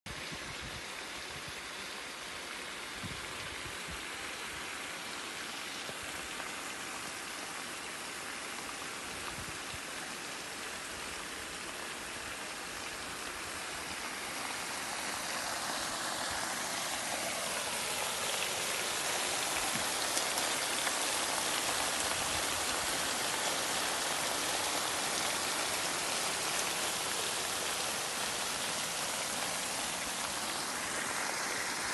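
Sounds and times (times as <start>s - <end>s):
water pouring in a stream: 0.1s - 31.9s.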